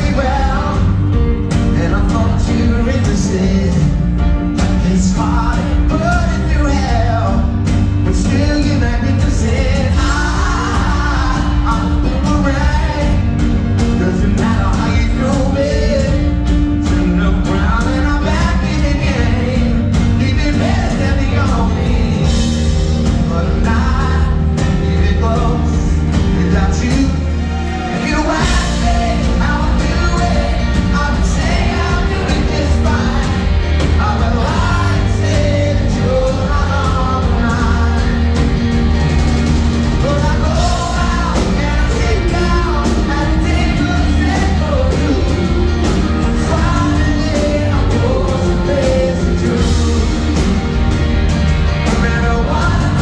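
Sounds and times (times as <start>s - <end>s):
bass guitar: 0.0s - 53.0s
drum kit: 0.0s - 53.0s
electric guitars: 0.0s - 53.0s
keyboard: 0.0s - 53.0s
man singing: 0.0s - 53.0s.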